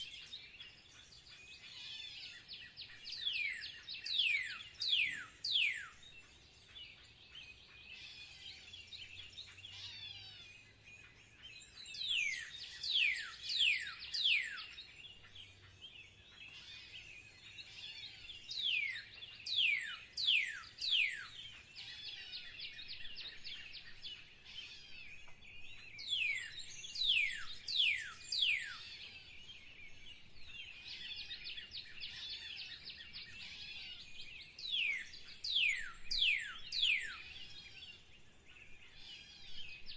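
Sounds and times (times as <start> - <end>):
high twittering bird chatter: 0.0 - 39.9.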